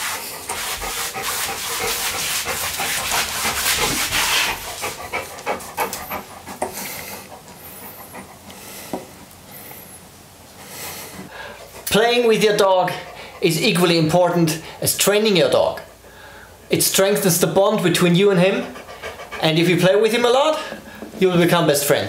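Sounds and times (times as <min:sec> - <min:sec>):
dog panting hard: 0:00.0 - 0:09.8, 0:10.6 - 0:14.8, 0:16.6 - 0:21.2.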